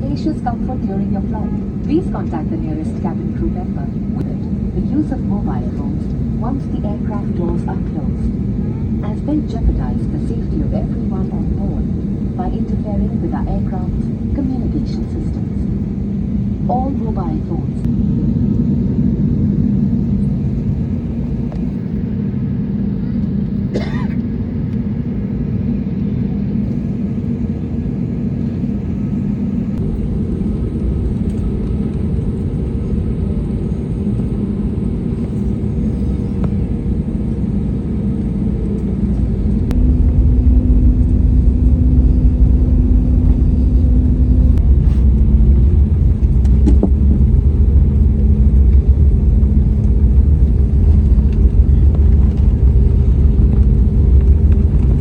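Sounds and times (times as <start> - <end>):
airliner engine hum: 0.0 - 55.0
jet engines spooling up: 0.0 - 55.0.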